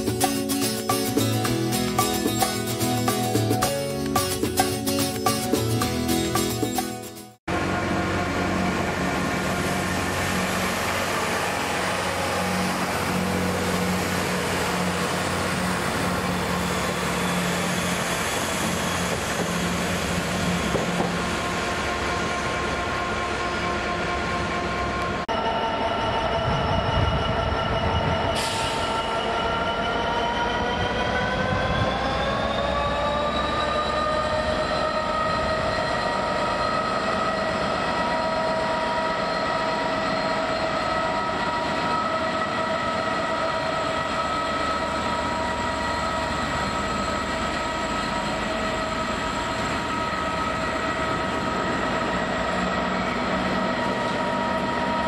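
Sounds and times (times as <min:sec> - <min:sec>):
diesel train engine humming: 0:00.0 - 0:31.5, 0:32.3 - 0:55.0
diesel locomotive engine: 0:00.0 - 0:55.0
wheels rumbling on rails: 0:00.0 - 0:55.0.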